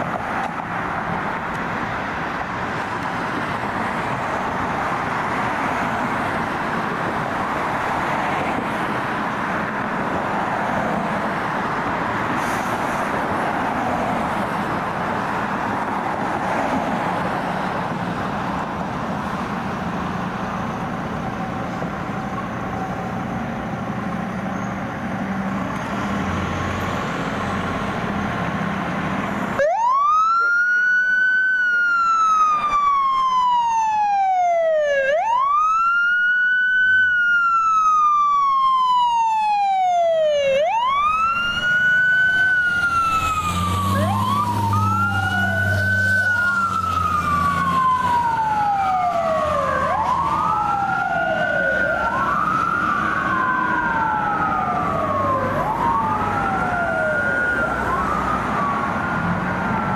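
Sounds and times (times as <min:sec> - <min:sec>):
heavy truck engine rumbling: 0:00.0 - 0:29.7, 0:40.0 - 0:59.9
sirens wailing: 0:00.0 - 0:59.9.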